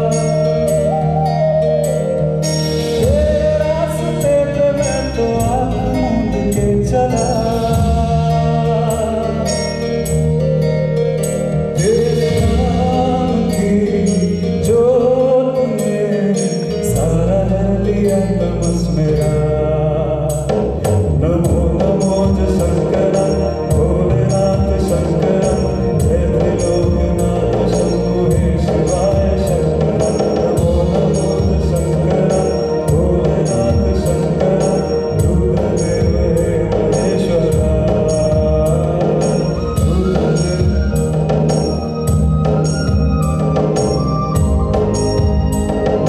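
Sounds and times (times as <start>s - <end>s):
man singing into microphone: 0.0s - 10.2s, 11.7s - 46.0s
electronic keyboard with steady beat: 0.0s - 17.2s, 20.3s - 46.0s.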